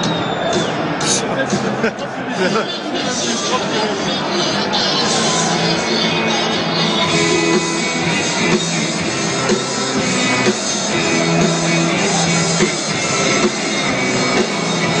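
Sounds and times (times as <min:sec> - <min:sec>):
rock music over loudspeakers: 0:00.0 - 0:15.0.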